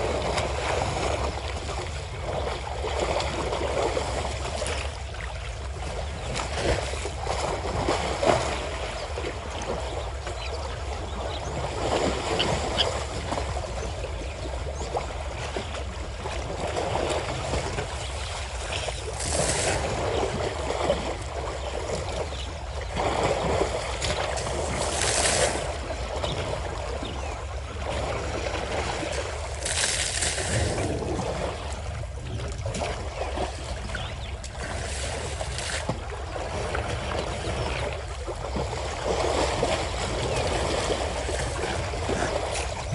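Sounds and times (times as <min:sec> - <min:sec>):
elephants splashing in water: 0:00.0 - 0:42.9.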